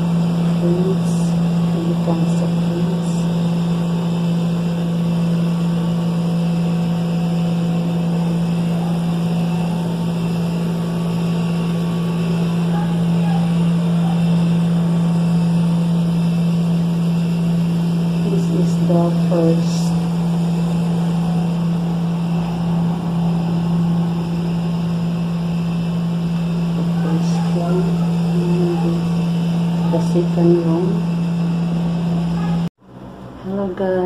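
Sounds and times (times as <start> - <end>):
loud steady low hum: 0.0 - 34.0.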